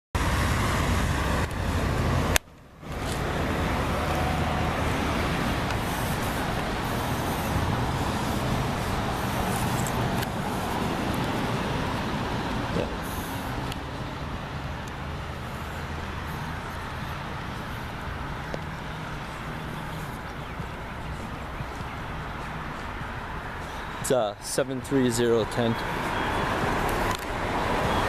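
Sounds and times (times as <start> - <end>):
road traffic noise: 0.1 - 28.0.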